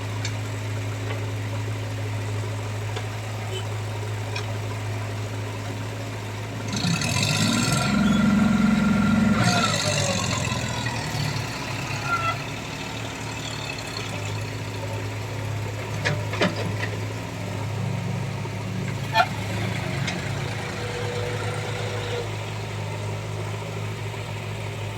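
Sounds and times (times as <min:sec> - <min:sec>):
diesel engine idling low: 0:00.0 - 0:24.9.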